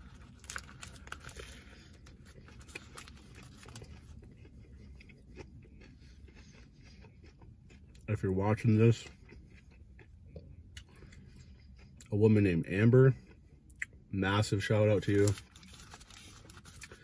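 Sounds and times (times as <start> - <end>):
man chewing food: 0.0 - 12.1, 15.5 - 17.0.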